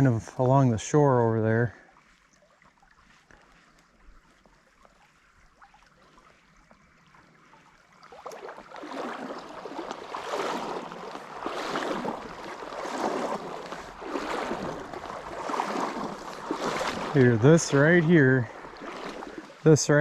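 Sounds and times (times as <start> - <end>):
footsteps wading through water: 0.0 - 20.0.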